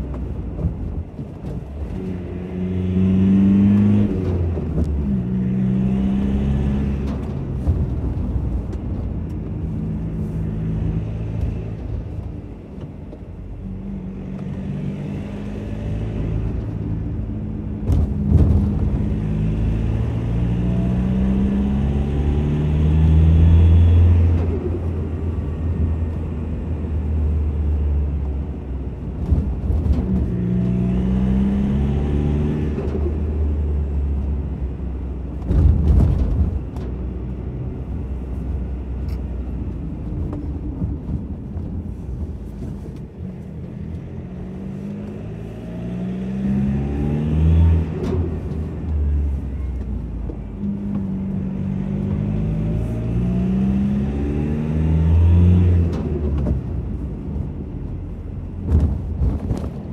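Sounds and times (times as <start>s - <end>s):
truck engine pulling through gears: 0.0s - 59.9s.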